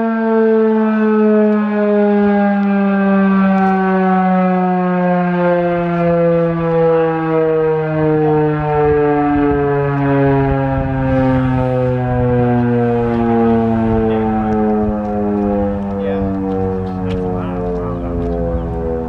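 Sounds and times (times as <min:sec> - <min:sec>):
rotating warning siren winding down: 0:00.0 - 0:19.0.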